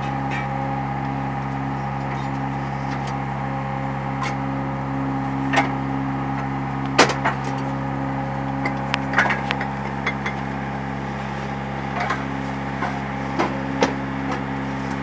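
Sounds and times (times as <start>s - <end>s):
hydraulic press motor humming: 0.0s - 15.0s.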